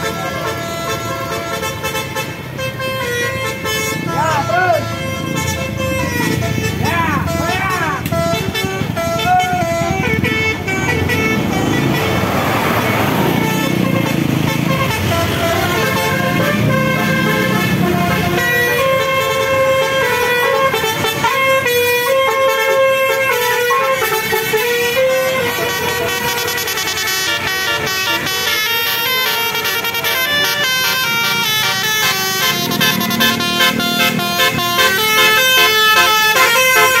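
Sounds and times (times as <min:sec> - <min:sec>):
low rumble of bus engines: 0:00.0 - 0:37.0
multi-tone bus horn playing a tune: 0:00.0 - 0:37.0.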